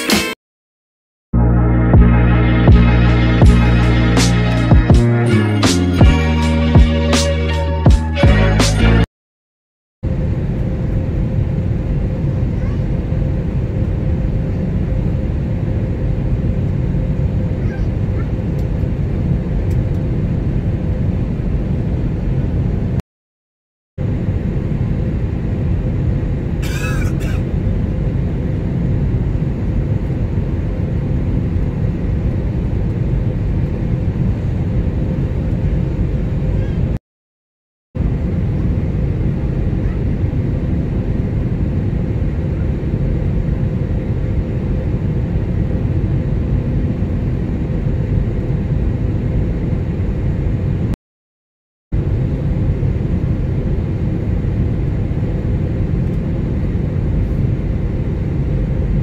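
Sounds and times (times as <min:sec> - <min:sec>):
jet engines and airflow: 0:01.4 - 0:09.0, 0:10.0 - 0:23.0, 0:24.0 - 0:37.0, 0:38.0 - 0:51.0, 0:52.0 - 0:59.0.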